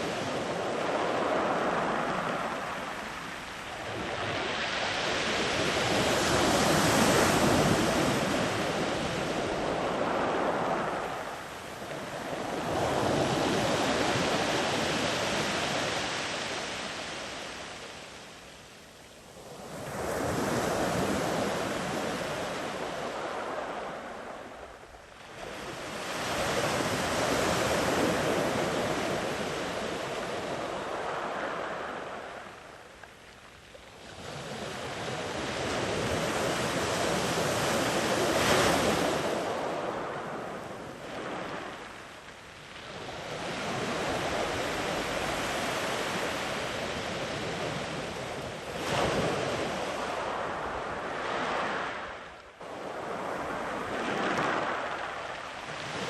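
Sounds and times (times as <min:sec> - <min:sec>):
sea waves breaking on beach: 0:00.0 - 0:18.5, 0:19.3 - 0:32.6, 0:33.9 - 0:56.0.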